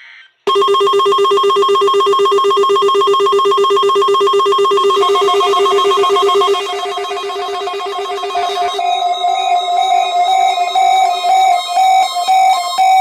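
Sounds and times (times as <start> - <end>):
electronic tone: 0.5 - 13.0
pulsing two-tone alarm: 0.5 - 13.0.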